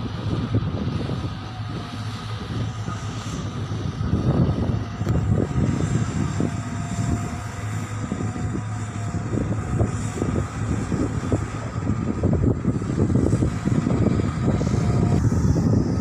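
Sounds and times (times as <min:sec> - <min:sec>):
gusty rumble: 0:00.0 - 0:16.0
low engine drone: 0:00.0 - 0:16.0.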